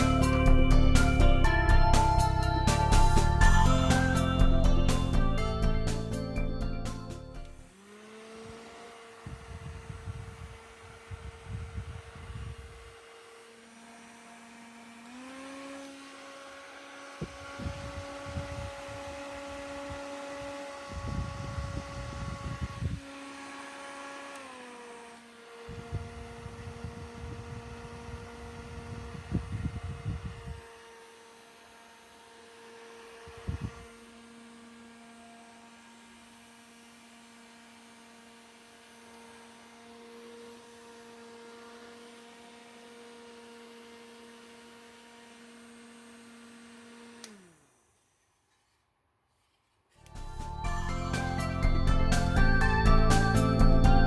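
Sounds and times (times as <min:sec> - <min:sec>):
desk fan motor hum: 0:00.0 - 0:48.0, 0:50.0 - 0:54.0.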